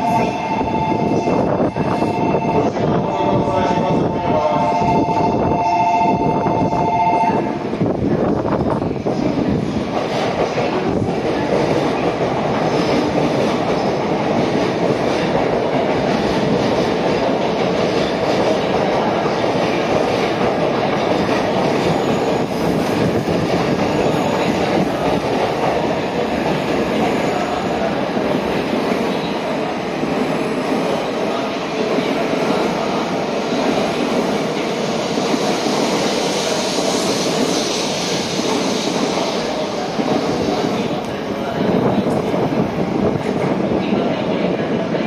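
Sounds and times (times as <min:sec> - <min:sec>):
train running on rails: 0:00.0 - 0:45.0.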